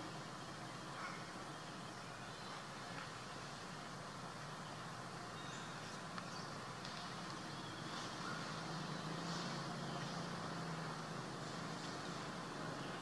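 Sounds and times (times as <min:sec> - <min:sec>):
distant vehicle engine hum: 0:00.0 - 0:13.0.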